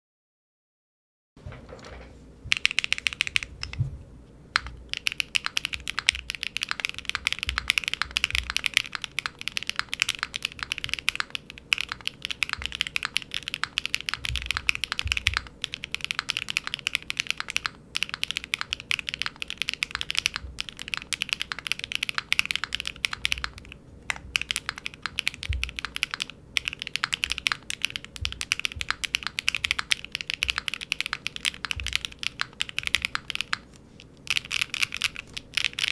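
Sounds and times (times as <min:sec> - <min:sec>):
fast typing on mechanical keyboard: 0:02.5 - 0:03.8, 0:04.5 - 0:35.9.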